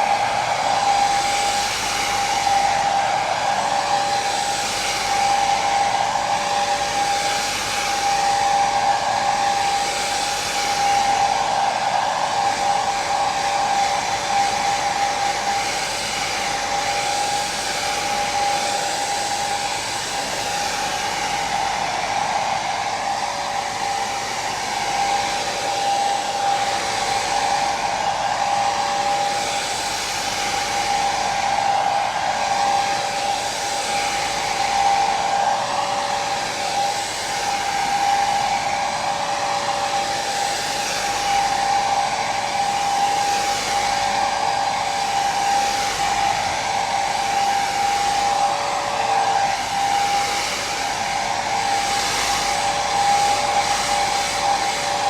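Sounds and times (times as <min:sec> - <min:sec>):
hair dryer air rushing: 0:00.0 - 0:55.0.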